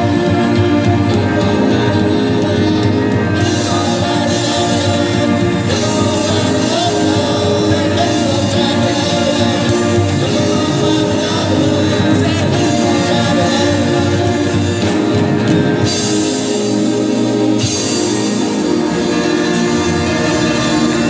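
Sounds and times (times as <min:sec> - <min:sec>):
electric guitar: 0:00.0 - 0:21.0
keyboards: 0:00.0 - 0:21.0.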